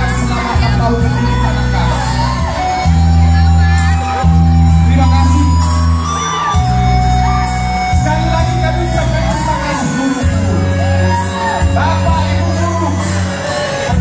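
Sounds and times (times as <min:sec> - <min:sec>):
song with sung melody and beat: 0:00.0 - 0:14.0.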